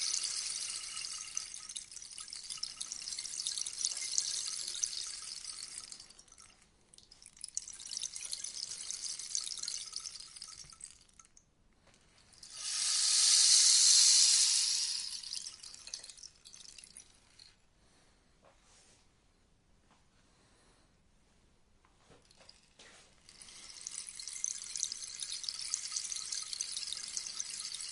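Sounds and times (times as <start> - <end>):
rainstick pebbles trickling: 0.0 - 11.4, 12.0 - 17.5, 22.2 - 27.9.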